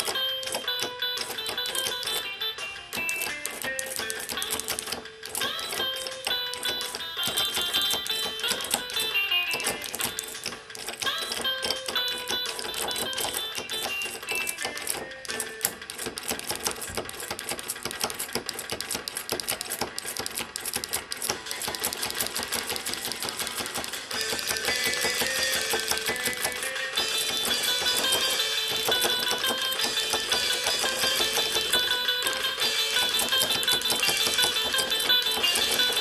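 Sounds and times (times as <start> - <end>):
faint music: 0.0 - 36.0
solenoids clacking: 0.0 - 36.0.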